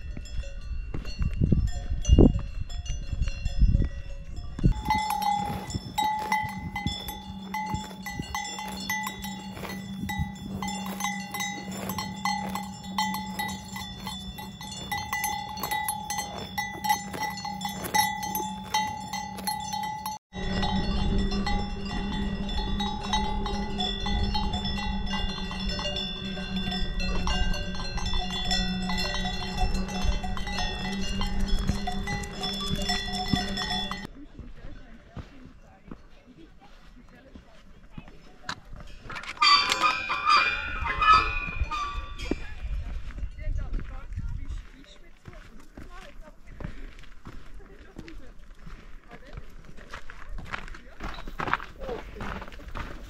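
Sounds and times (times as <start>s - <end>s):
cowbells clanking: 0.0s - 53.0s.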